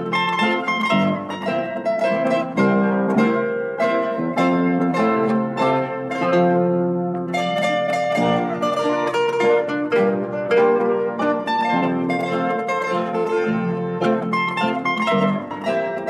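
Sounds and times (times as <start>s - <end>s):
plucked string instrumental music: 0.0s - 16.0s.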